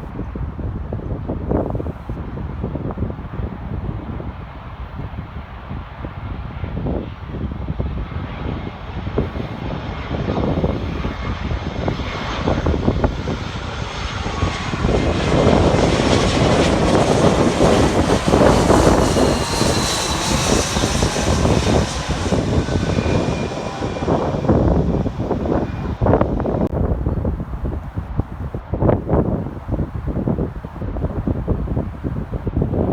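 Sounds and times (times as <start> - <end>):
jet airliner passing by: 0.1 - 32.9
high engine whine: 6.4 - 32.8.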